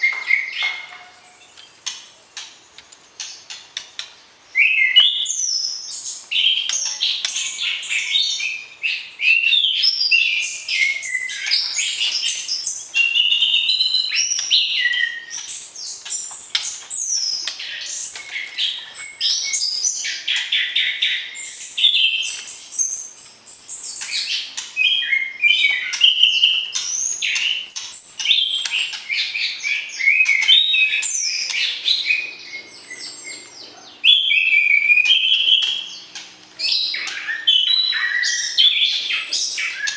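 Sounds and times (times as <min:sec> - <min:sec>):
songbird whistles and trills: 0:00.0 - 0:02.5, 0:03.2 - 0:39.9.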